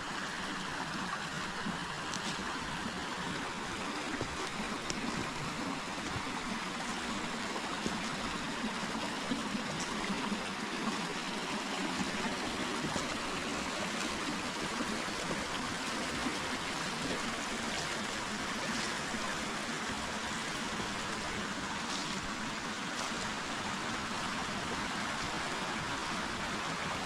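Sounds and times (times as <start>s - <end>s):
river water rushing over stones: 0.0s - 27.0s.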